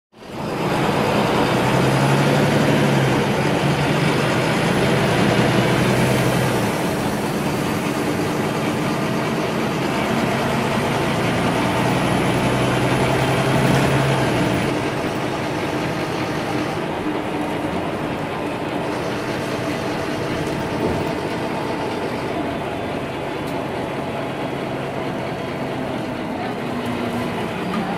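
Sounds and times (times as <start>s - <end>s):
bus engine rumble: 0.2s - 27.9s.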